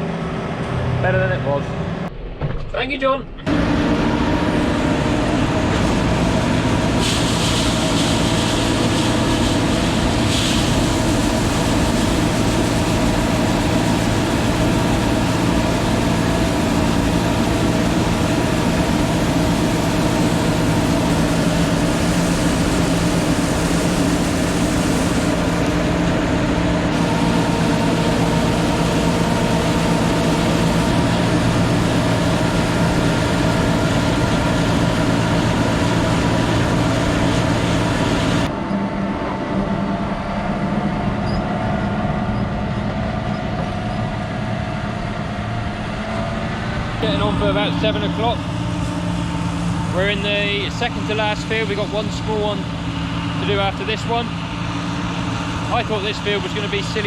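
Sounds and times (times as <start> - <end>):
diesel engine running: 0.0 - 2.5, 3.2 - 57.0.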